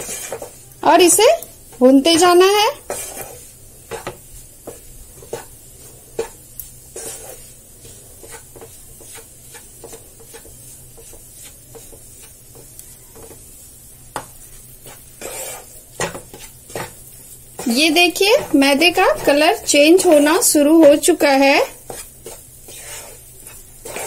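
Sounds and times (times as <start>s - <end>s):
spatula scraping flour in pan: 0.0s - 24.0s.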